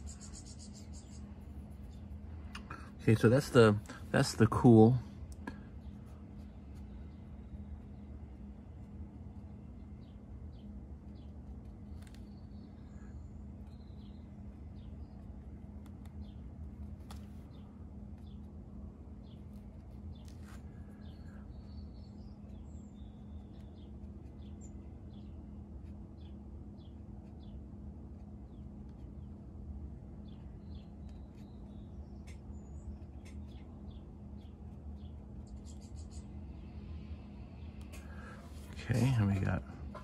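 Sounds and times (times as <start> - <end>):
small birds chirping: 0.0 - 40.0
steady low hum: 0.0 - 40.0.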